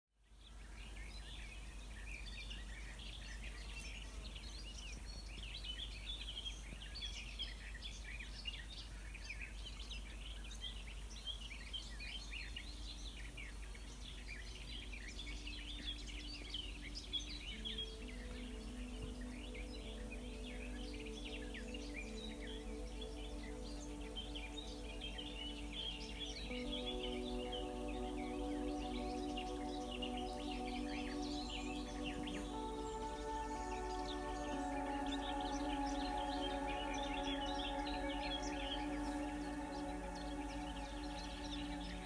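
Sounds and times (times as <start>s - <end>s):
soft held music tones: 0.2s - 42.0s
songbirds chirping and trilling: 0.2s - 42.0s.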